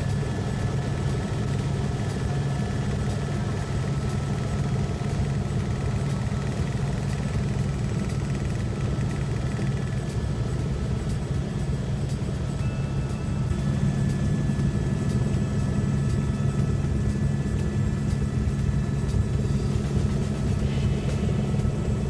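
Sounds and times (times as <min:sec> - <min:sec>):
helicopter engine and rotor drone: 0:00.0 - 0:22.0
turbine whine: 0:00.0 - 0:22.0.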